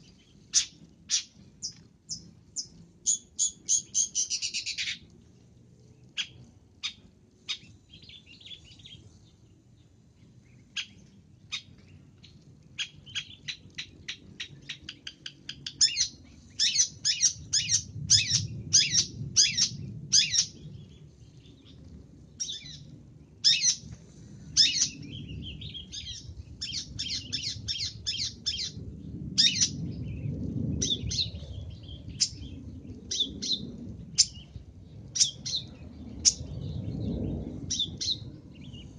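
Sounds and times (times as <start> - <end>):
bird chirping: 0.0 - 5.0, 6.0 - 21.8, 22.4 - 23.8, 24.6 - 28.8, 29.4 - 34.6, 35.2 - 38.9
faint low rumble: 0.0 - 38.9.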